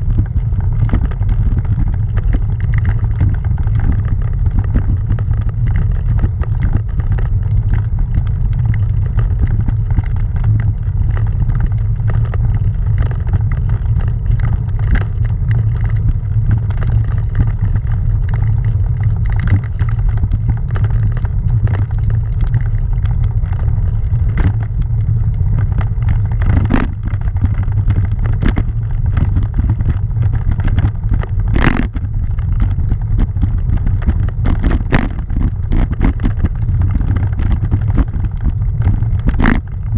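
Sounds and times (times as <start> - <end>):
bicycle tyres rolling on cobblestones: 0.0 - 39.9.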